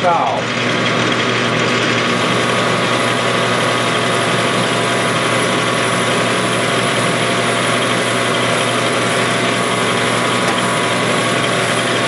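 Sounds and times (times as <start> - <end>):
metal lathe cutting: 0.0 - 12.0.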